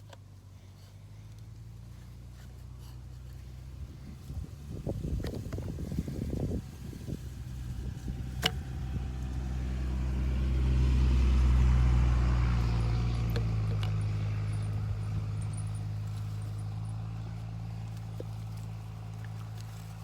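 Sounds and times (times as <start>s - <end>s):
motor engine running: 0.0s - 20.0s.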